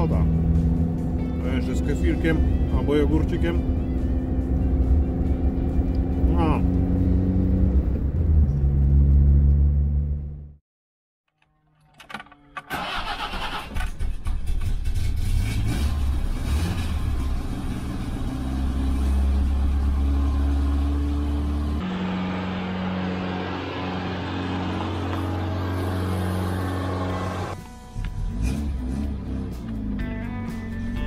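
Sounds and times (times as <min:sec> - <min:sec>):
car engine starting and running: 0:00.0 - 0:10.6, 0:11.8 - 0:31.0.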